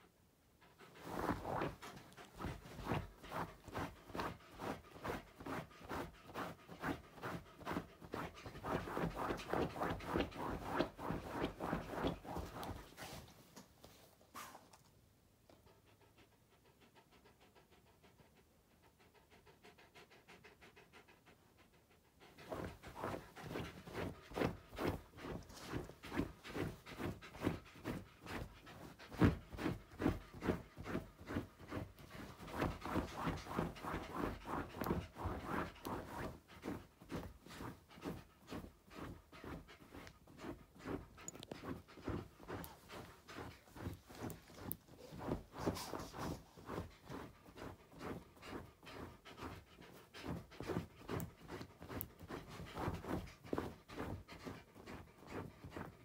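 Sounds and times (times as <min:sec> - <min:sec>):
dog panting: 0:00.0 - 0:56.0.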